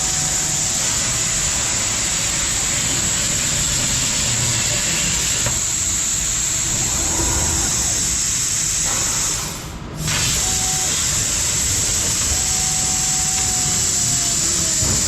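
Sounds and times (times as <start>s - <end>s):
laser cutting machine hissing: 0.0s - 15.0s.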